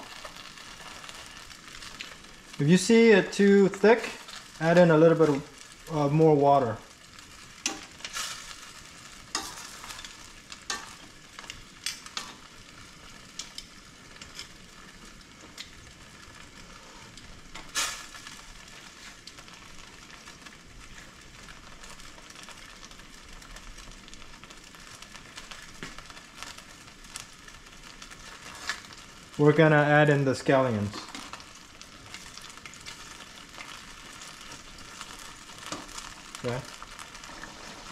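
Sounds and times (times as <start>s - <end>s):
food sizzling in a pan: 0.0s - 37.9s.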